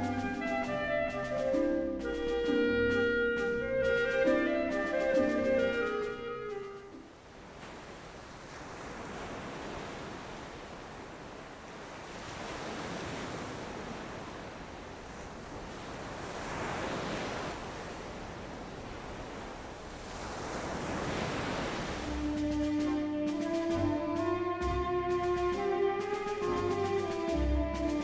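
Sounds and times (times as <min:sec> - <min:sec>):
surf-like rushing noise: 0:00.0 - 0:28.0.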